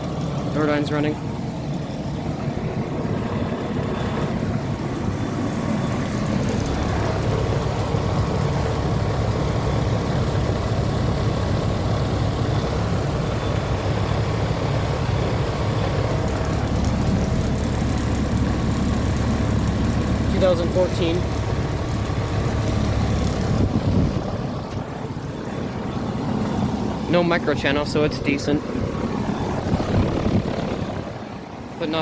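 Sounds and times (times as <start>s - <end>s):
air conditioner unit humming: 0.0s - 32.0s.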